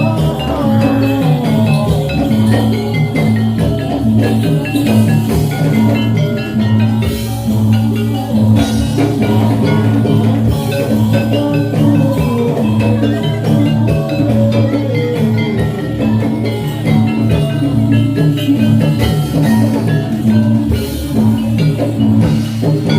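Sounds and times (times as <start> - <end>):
drums: 0.0 - 22.9
gamelan music: 0.0 - 22.9
metallophones struck: 0.0 - 22.9.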